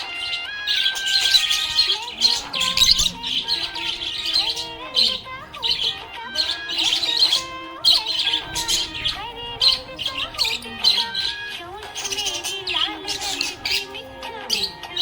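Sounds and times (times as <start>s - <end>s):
budgerigar chirping and warbling: 0.0s - 15.0s.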